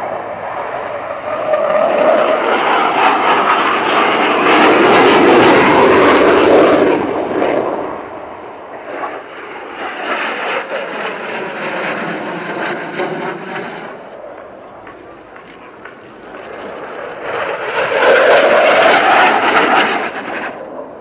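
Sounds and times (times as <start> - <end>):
jet engine afterburner roar: 0.0 - 21.0.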